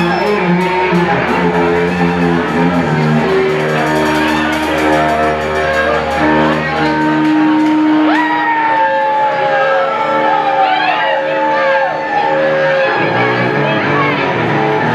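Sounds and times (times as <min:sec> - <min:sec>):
bass line: 0:00.0 - 0:14.9
string lead melody: 0:00.0 - 0:14.9.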